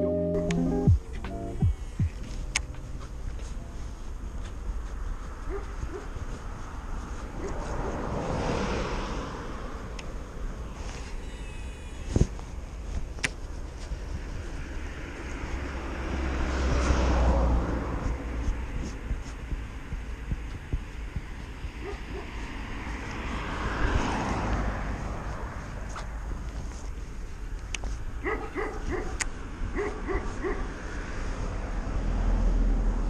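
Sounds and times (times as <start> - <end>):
road vehicles passing: 0.0 - 33.0
low wind rumble on microphone: 0.9 - 33.0.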